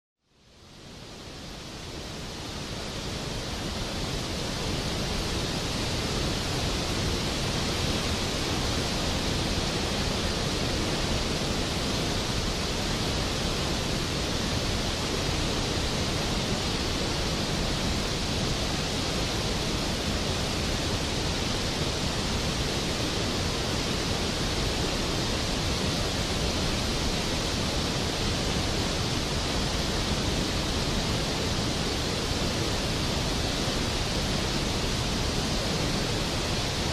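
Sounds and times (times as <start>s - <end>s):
waterfall and rapids rushing: 0.4s - 36.9s.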